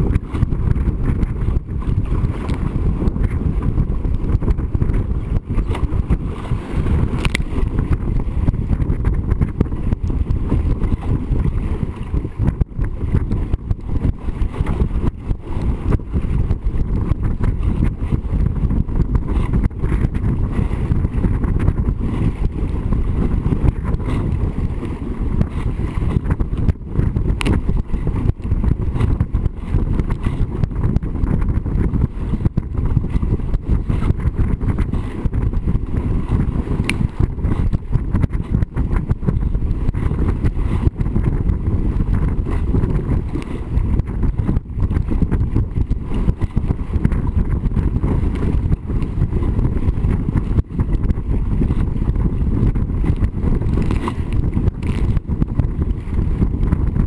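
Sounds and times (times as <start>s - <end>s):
water rushing past hull: 0.0s - 57.0s
wind buffeting microphone: 0.0s - 57.0s.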